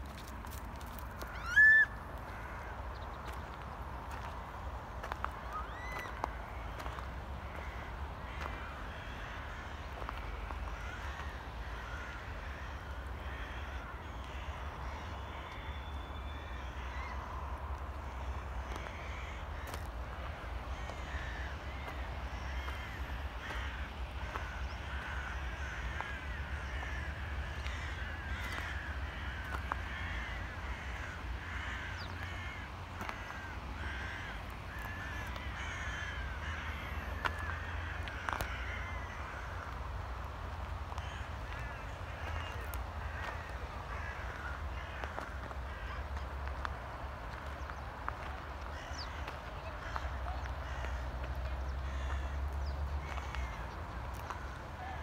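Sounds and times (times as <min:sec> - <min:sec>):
flock of birds cawing: 0:00.0 - 0:55.0.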